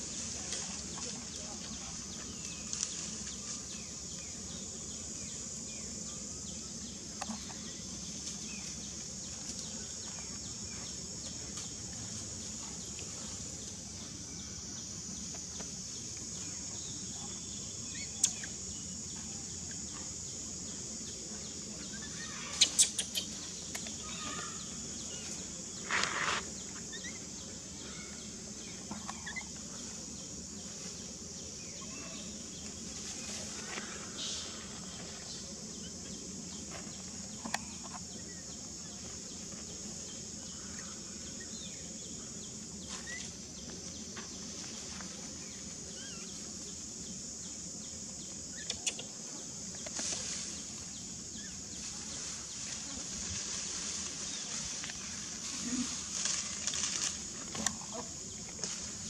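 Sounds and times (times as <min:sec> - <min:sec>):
steady high hiss: 0:00.0 - 0:59.0.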